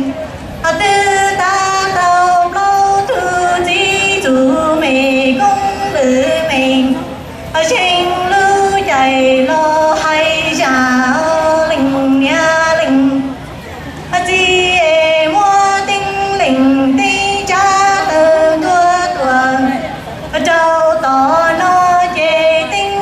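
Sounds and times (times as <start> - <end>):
woman singing into a microphone: 0.0 - 13.4, 14.1 - 23.0.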